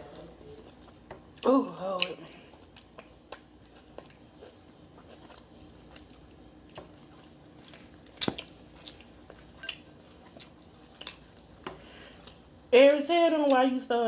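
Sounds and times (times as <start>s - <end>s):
chewing: 0.0s - 12.5s.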